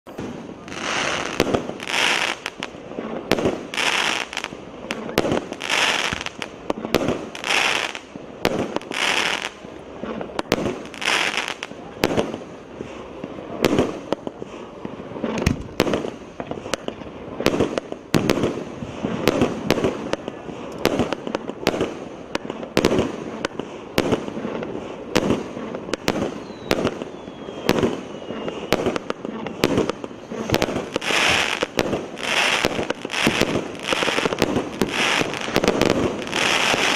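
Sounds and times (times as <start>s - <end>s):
firework hissing crackling spray: 0.1s - 36.9s.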